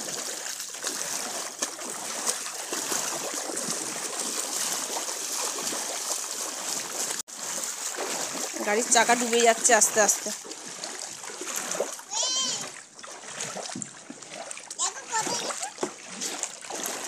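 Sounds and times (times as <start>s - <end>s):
feet wading through water: 0.0s - 17.0s.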